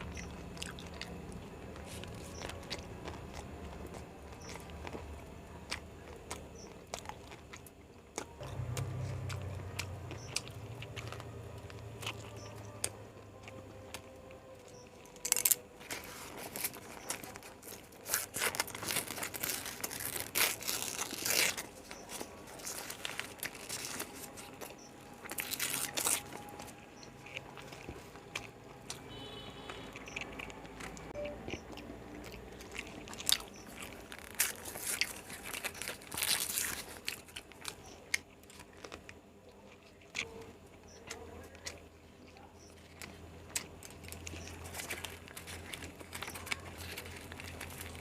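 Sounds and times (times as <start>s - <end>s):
person crunching and chewing: 0.0s - 48.0s.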